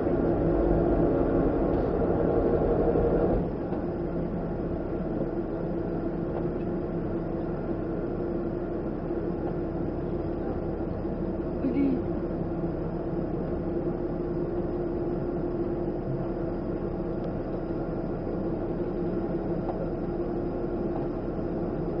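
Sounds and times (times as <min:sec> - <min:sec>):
constant hum: 0:00.0 - 0:22.0
ferry engines droning: 0:00.0 - 0:22.0.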